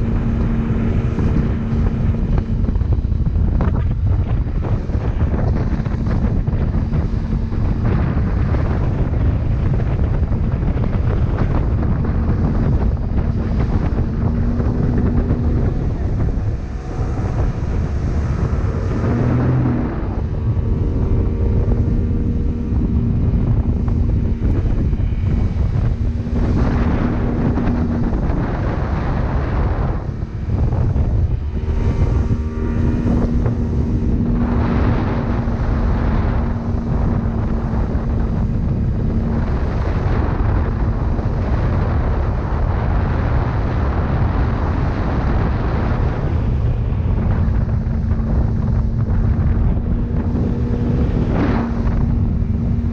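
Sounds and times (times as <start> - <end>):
speed boat engine humming: 0.0 - 52.9
wind noise on microphone: 0.0 - 52.9.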